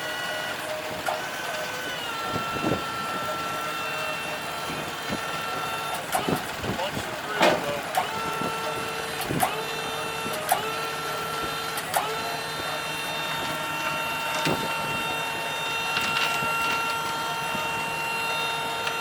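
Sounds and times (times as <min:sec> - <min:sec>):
tractor hydraulics whining: 0:00.0 - 0:19.0.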